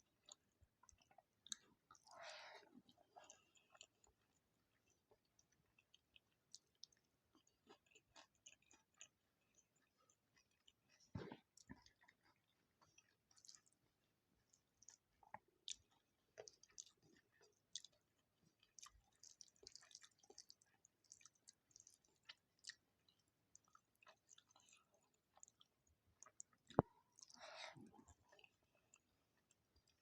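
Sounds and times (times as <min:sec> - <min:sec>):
chewing and mouth sounds: 0:00.0 - 0:30.0.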